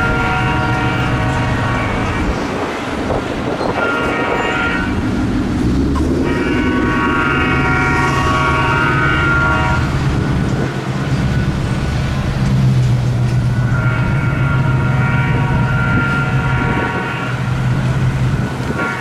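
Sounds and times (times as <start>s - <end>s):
locomotive air horn: 0.0s - 11.8s, 12.4s - 19.0s
train rumbling: 0.0s - 19.0s.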